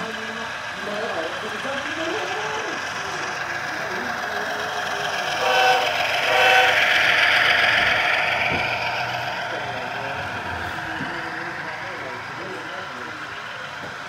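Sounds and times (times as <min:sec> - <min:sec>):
model train rushing past: 0:00.0 - 0:14.0.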